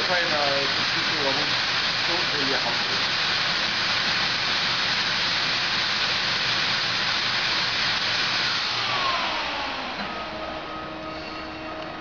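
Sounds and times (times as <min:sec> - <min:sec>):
cutting machine motor hissing: 0:00.0 - 0:12.0
machine winding down whine: 0:00.0 - 0:12.0.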